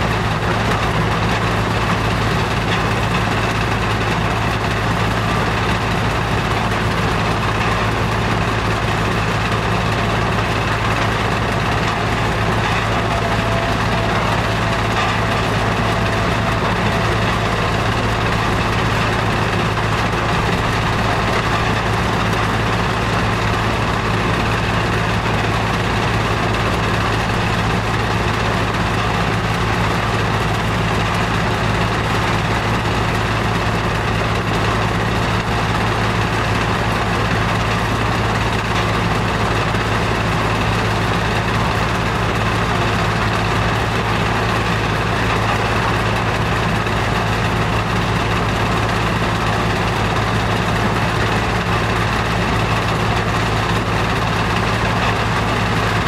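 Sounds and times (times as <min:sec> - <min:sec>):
low machinery hum: 0:00.0 - 0:56.0.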